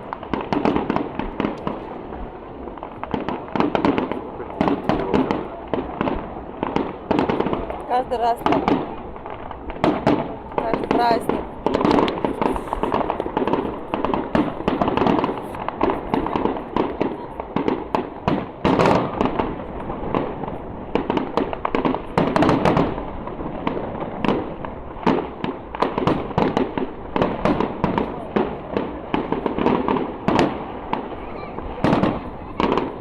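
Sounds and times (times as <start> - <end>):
continuous rumble: 0.0 - 33.0
fireworks cracks and bangs: 0.0 - 33.0.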